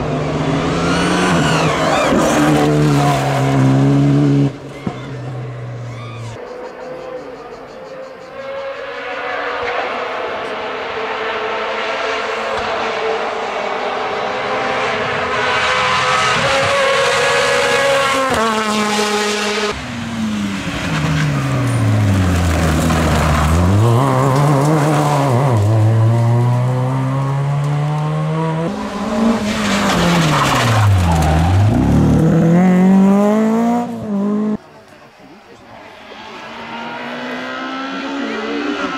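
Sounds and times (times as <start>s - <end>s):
rally car engines revving: 0.0s - 6.6s, 7.6s - 38.9s.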